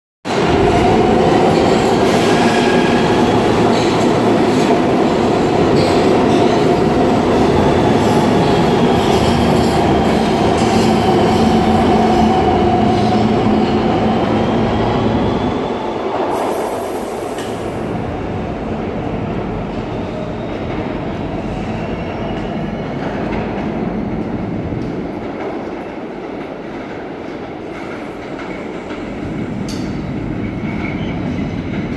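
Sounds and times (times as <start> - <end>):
train wheels rumbling on rails: 0.3 - 31.9.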